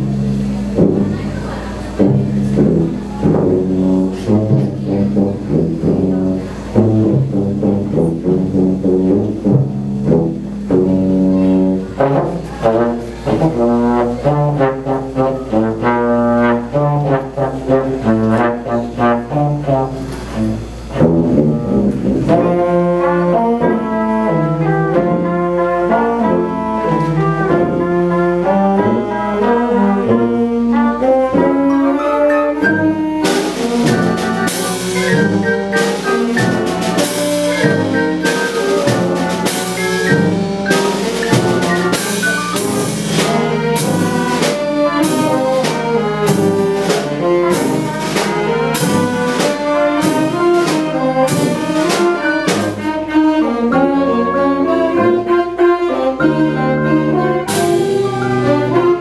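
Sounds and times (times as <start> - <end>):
jazz band playing: 0.0 - 59.0.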